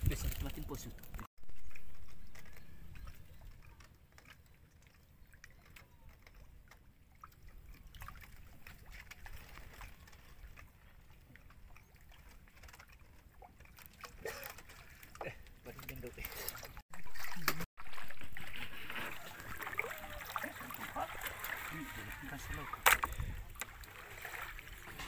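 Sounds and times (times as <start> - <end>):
water lapping around a canoe: 0.1 - 25.0.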